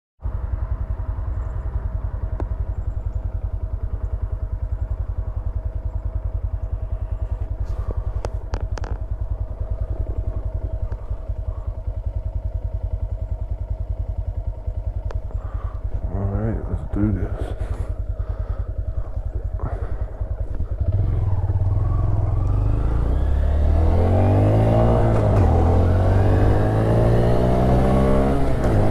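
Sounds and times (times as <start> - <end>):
motorcycle engine idling: 0.2 - 28.9.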